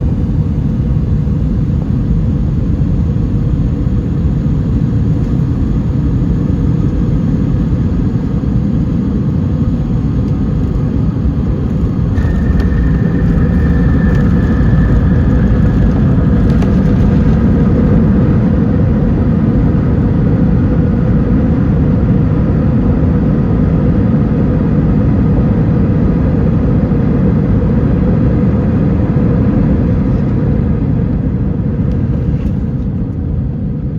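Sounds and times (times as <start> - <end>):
airplane cabin rumble: 0.0 - 33.9
faint whine: 0.0 - 33.9.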